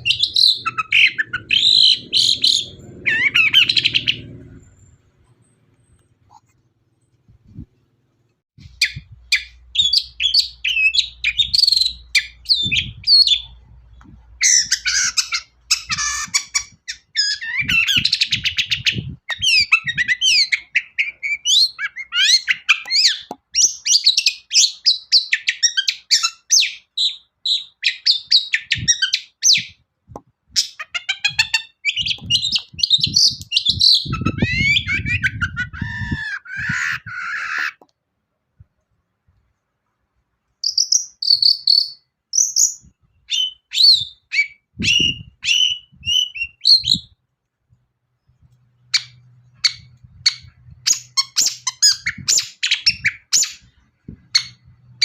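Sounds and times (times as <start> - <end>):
bird singing harsh chatters and trills: 0.0 - 6.4, 8.7 - 29.8, 30.5 - 37.8, 40.6 - 47.2, 48.8 - 55.0.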